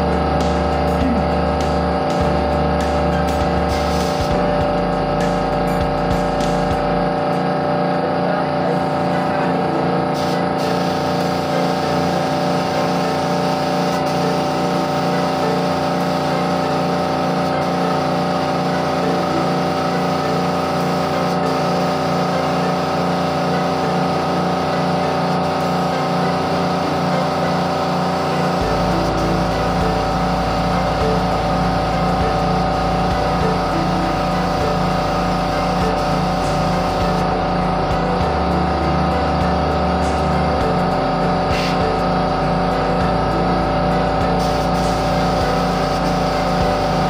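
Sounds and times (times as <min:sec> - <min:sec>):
air compressor running: 0:00.0 - 0:47.0.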